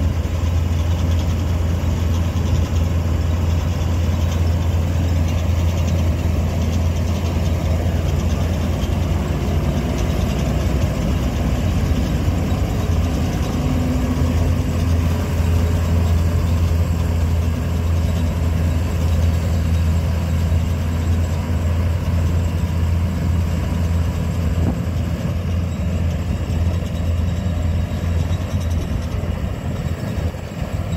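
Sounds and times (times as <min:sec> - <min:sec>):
combine harvester engine humming: 0:00.0 - 0:30.9.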